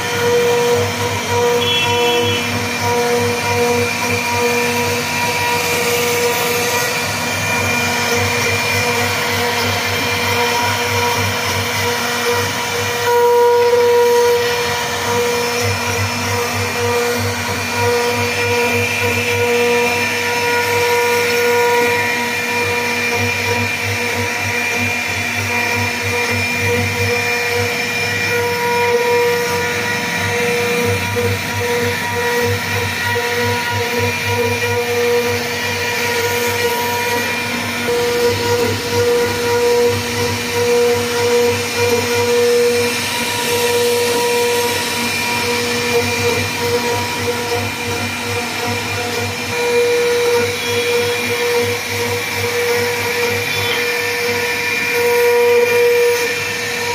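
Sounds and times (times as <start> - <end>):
cnc router spindle whining: 0.0 - 56.9.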